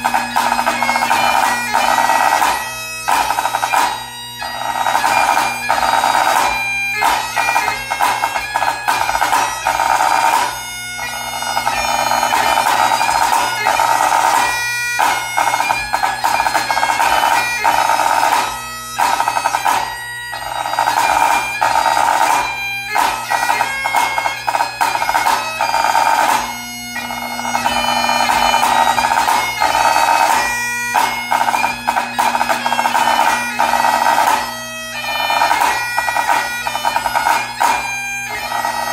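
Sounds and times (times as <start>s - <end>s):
snare drum: 0.0s - 10.6s, 11.4s - 20.0s, 20.7s - 38.9s
bagpipe playing lively tune: 0.0s - 38.9s.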